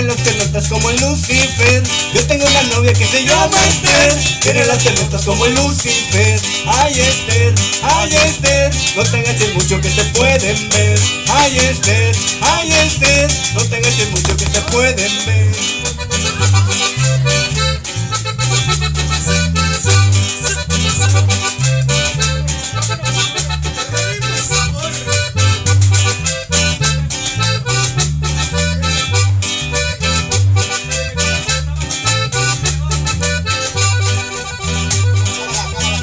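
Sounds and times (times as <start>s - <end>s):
accordion melody: 0.0s - 36.0s
bass line: 0.0s - 36.0s
steady percussion: 0.0s - 36.0s.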